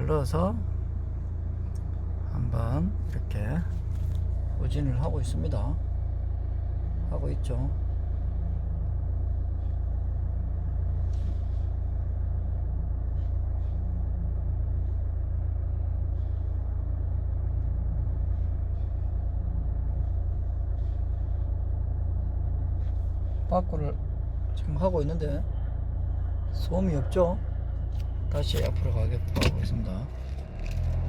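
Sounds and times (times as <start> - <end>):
car reversing low rumble: 0.0 - 31.0.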